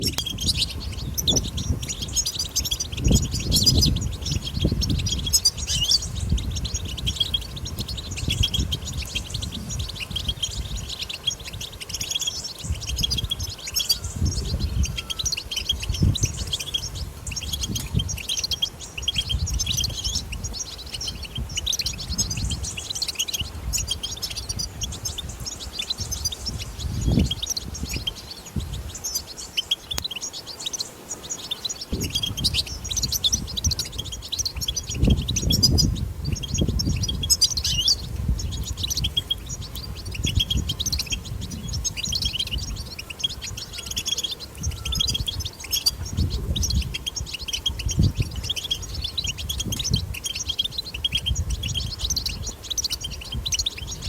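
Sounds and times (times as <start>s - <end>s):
finch twittering: 0.0s - 54.0s.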